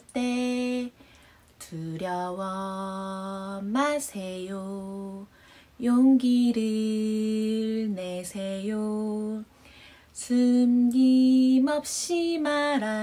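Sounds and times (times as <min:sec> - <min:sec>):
woman singing a hymn unaccompanied: 0:00.0 - 0:09.5, 0:10.1 - 0:13.0.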